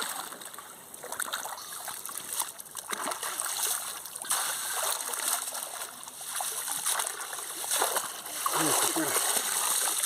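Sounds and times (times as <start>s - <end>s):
river water rushing and splashing: 0.0s - 10.0s.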